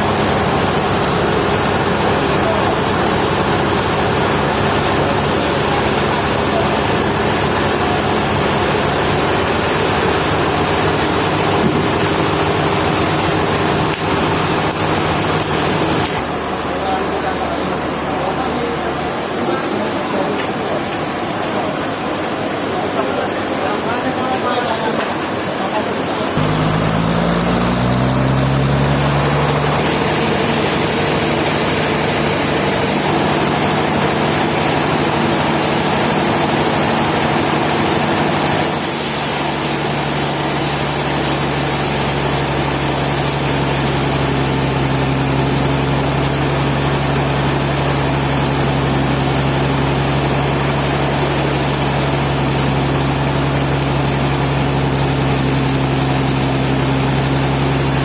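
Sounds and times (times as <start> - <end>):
sawmill engine running: 0.0 - 18.0, 26.2 - 58.0.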